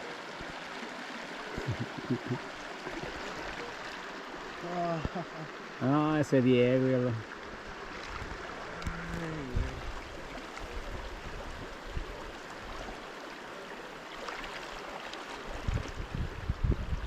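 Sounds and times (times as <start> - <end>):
running water flowing: 0.0 - 17.0.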